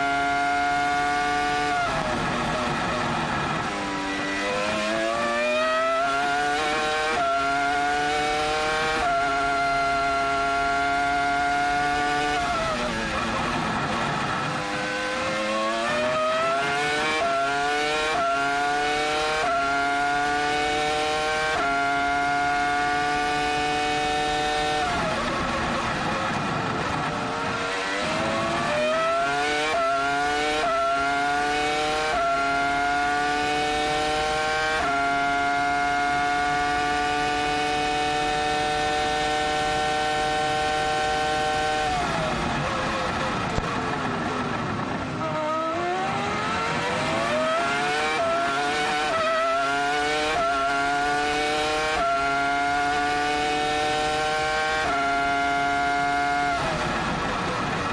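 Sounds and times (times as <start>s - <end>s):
racing car engine revving through gears: 0.0s - 57.9s.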